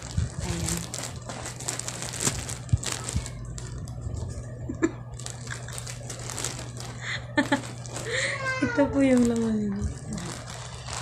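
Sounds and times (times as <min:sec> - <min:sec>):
plastic pouch crinkling: 0:00.0 - 0:11.0.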